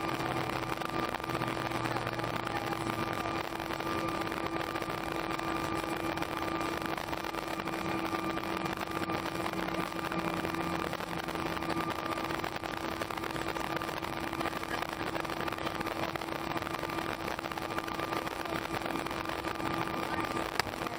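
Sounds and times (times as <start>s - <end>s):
aircraft cabin engine noise: 0.0s - 20.9s
constant low hum: 0.0s - 20.9s
faint high steady tone: 0.0s - 20.9s.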